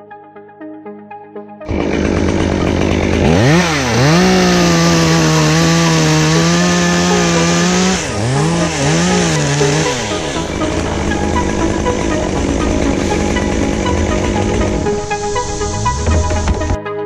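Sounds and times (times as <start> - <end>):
chainsaw revving: 1.7 - 16.8.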